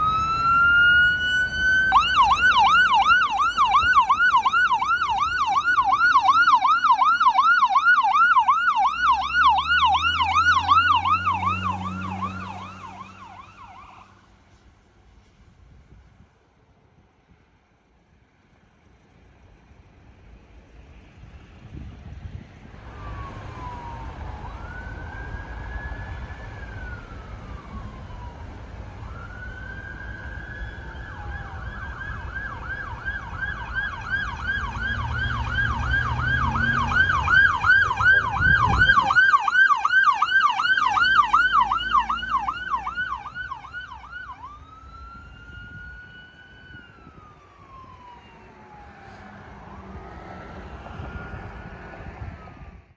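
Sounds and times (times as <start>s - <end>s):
emergency siren wailing and yelping: 0.0s - 14.3s, 22.8s - 52.9s
low vehicle rumble: 0.0s - 52.9s.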